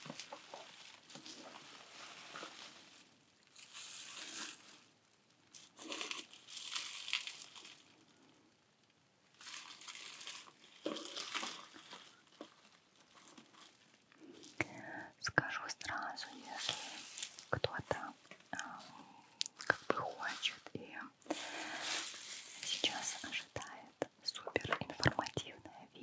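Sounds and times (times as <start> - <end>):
bubble wrap crinkling: 0.0 - 25.8.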